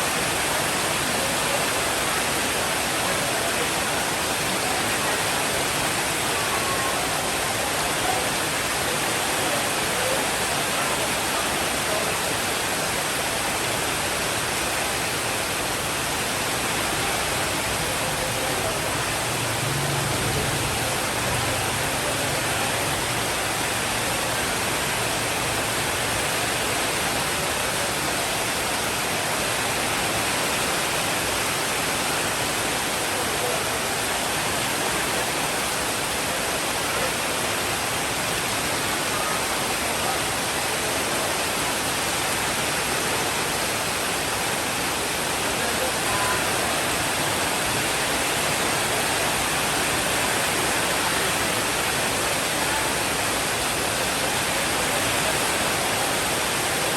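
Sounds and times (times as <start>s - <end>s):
heavy rainfall hissing: 0.0s - 56.9s.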